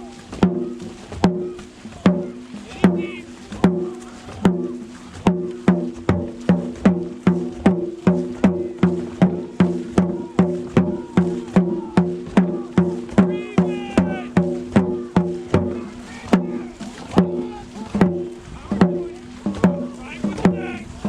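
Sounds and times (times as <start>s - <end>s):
low-pitched drum beats: 0.0s - 21.0s.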